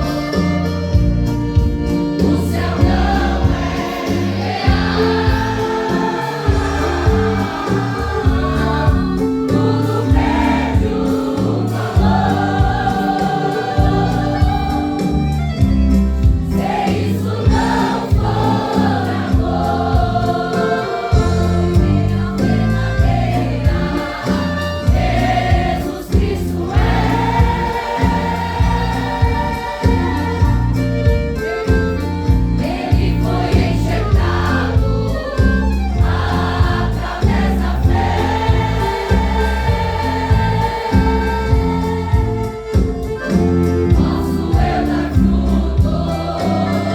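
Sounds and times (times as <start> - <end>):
band playing upbeat rhythm: 0.0 - 46.9
choir singing: 1.8 - 15.4, 16.4 - 46.9.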